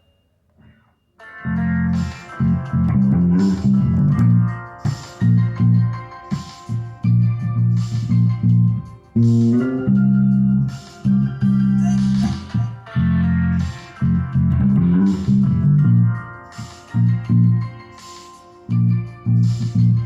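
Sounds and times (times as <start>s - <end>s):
plucked guitar: 0.7s - 20.0s
deep bass line: 1.4s - 17.8s, 18.7s - 20.0s.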